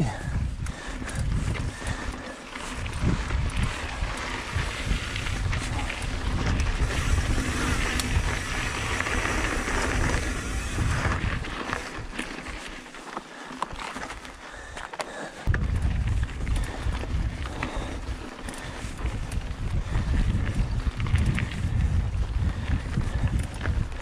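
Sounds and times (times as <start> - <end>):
wind buffeting microphone: 0.0 - 12.6, 15.4 - 24.0
bike clicks and rattles: 0.0 - 24.0
tyres on dirt: 0.0 - 24.0.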